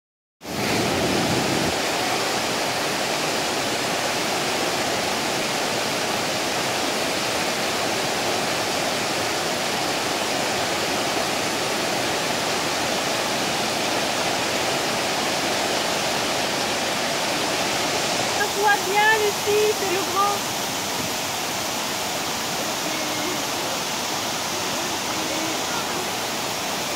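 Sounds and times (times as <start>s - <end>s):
river water rushing over rapids: 0.4s - 26.9s.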